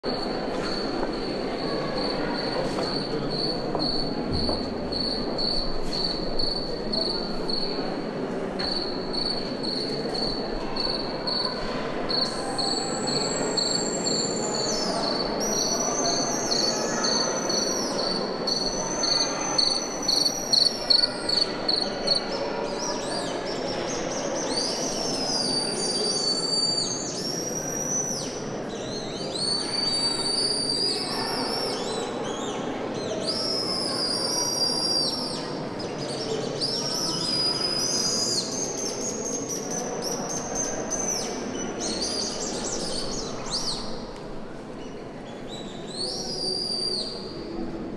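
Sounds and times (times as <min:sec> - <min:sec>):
crowd hubbub: 0:00.0 - 0:47.9.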